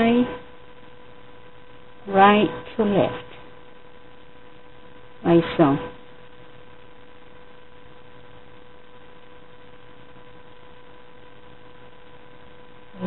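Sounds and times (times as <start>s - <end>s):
electrical hum: 0.0s - 13.0s
recording equipment hiss: 0.0s - 13.0s.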